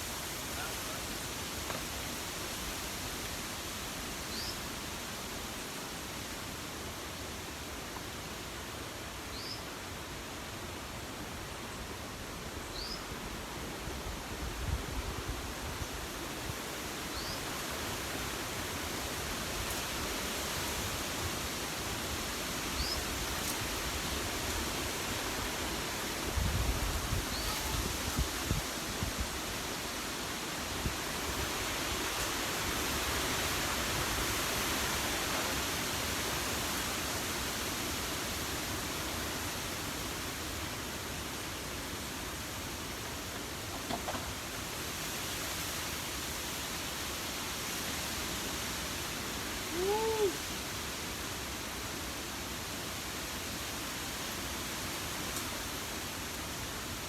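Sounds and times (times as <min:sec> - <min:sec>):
strong wind rushing through trees: 0:00.0 - 0:57.0.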